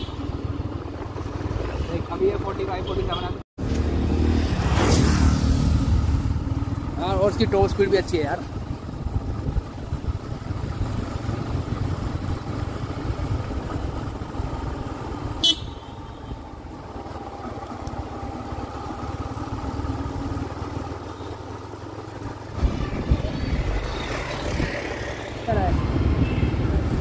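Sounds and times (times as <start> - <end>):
motorcycle engine running: 0.0 - 4.0, 5.6 - 27.0
road and wind rumble: 0.0 - 27.0.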